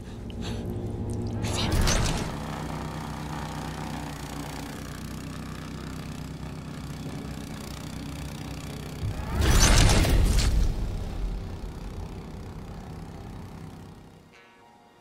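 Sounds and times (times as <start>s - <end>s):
snowblower engine running: 0.0s - 14.4s.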